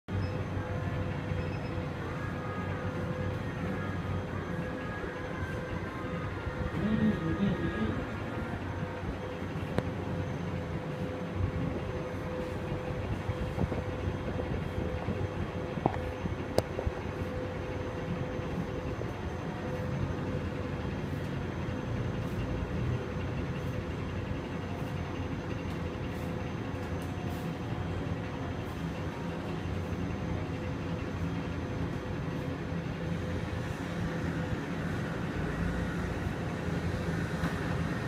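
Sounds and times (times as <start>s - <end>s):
printer mechanical hum: 0.1s - 38.0s.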